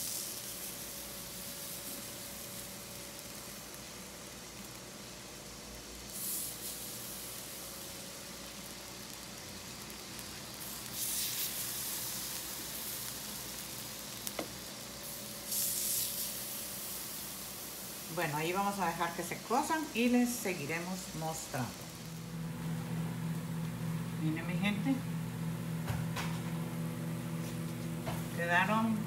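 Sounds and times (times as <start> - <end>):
batter sizzling on griddle: 0.0 - 29.0.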